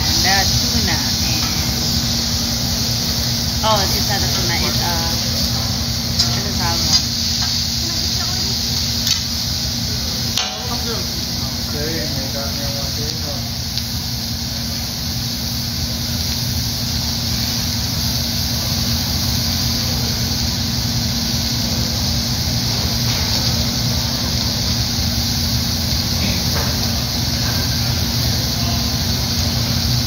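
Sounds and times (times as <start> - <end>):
food sizzling on griddle: 0.0 - 30.0.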